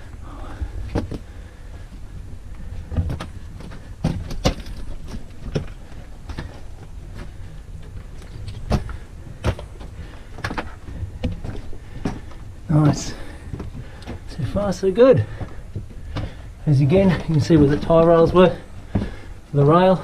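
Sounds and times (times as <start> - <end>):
steady low rumble: 0.0 - 20.0
footsteps crunching on rock rubble: 0.9 - 20.0.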